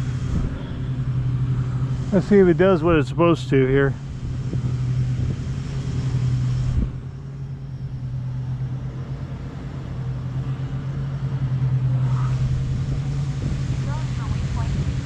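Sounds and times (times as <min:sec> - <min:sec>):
low uneven rumble: 0:00.0 - 0:15.0
quadcopter propellers humming: 0:00.0 - 0:15.0.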